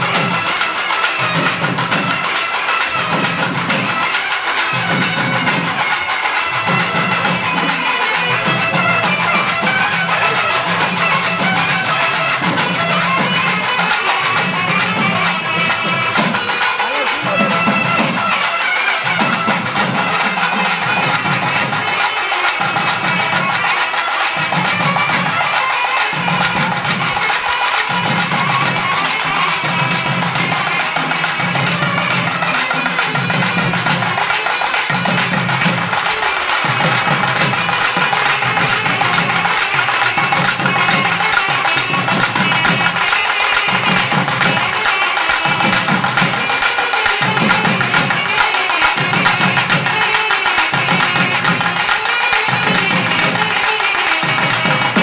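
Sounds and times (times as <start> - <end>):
barrel drums playing fast beat: 0.0 - 55.0
steady ringing: 0.0 - 55.0.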